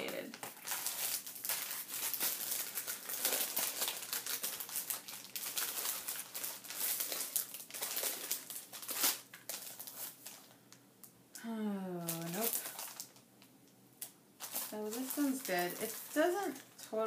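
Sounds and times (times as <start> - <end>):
plastic packaging crinkling: 0.0 - 10.8, 11.9 - 17.0.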